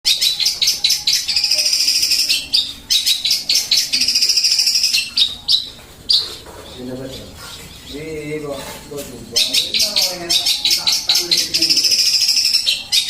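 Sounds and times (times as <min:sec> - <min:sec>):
sparrow chirping and trilling: 0:00.1 - 0:13.0.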